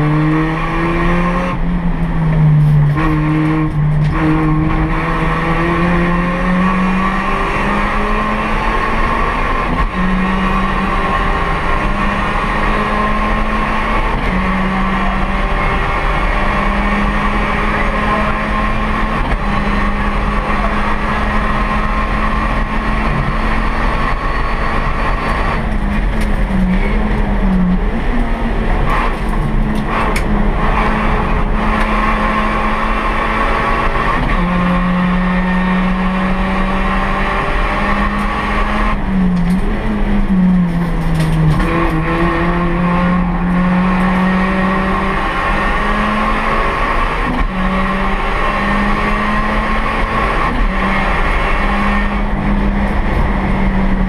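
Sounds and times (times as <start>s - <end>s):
race car engine running: 0.0s - 54.0s
road noise: 0.0s - 54.0s.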